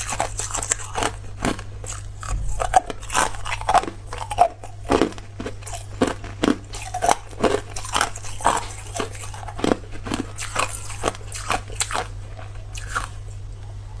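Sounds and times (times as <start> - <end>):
person crunching ice: 0.0 - 12.1.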